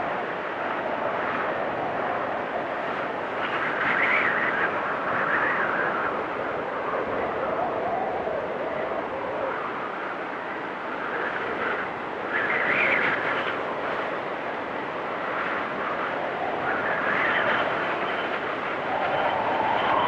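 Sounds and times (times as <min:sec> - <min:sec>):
gusting wind: 0:00.0 - 0:20.0
high wind whistle: 0:00.0 - 0:20.0.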